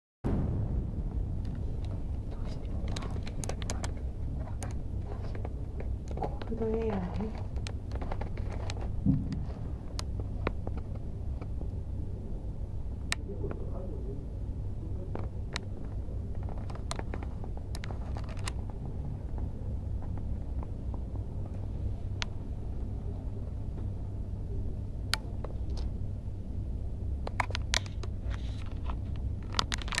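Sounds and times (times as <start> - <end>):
distant city traffic rumble: 0.3 - 30.0.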